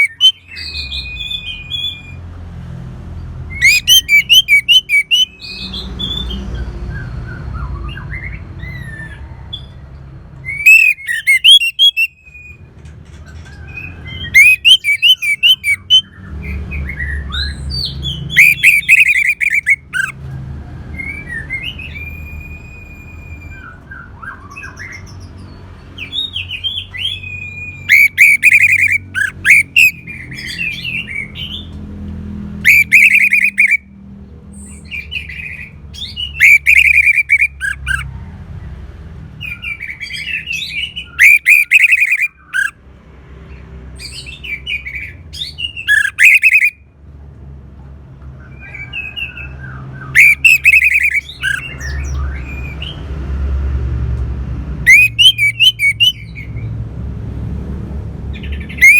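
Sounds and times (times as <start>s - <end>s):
thrush singing whistles and trills: 0.0s - 2.2s, 3.5s - 20.2s, 20.9s - 31.8s, 32.5s - 33.9s, 34.5s - 38.2s, 39.4s - 42.8s, 43.5s - 46.9s, 48.5s - 53.2s, 54.8s - 56.8s, 58.3s - 58.9s.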